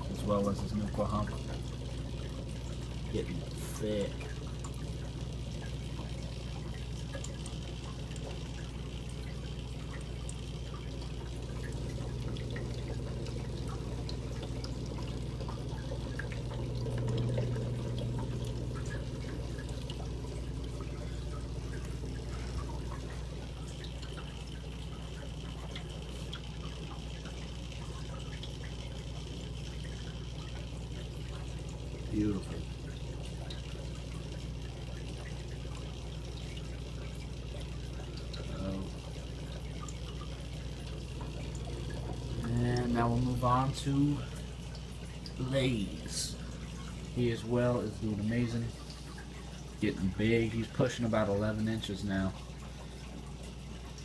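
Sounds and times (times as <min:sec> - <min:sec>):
aquarium water bubbling: 0:00.0 - 0:54.0
bubbles ticking at surface: 0:00.0 - 0:54.0
low equipment hum: 0:00.0 - 0:54.0.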